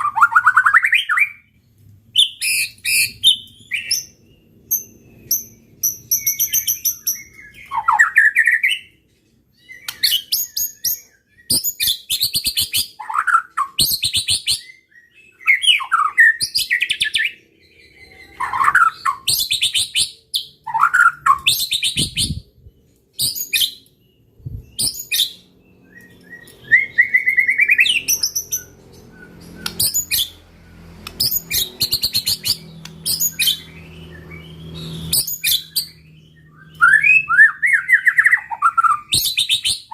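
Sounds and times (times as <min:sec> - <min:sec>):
songbird singing varied song: 0:02.2 - 0:39.9.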